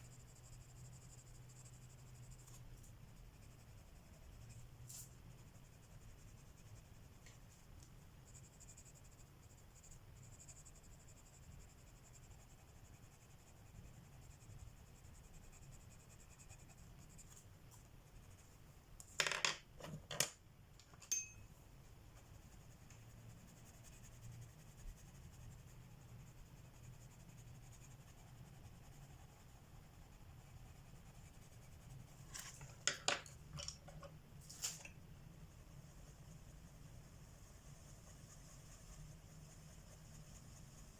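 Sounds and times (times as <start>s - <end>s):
pencil scratching on paper: 0.2s - 7.1s, 8.2s - 18.6s, 22.2s - 32.7s, 35.6s - 40.9s.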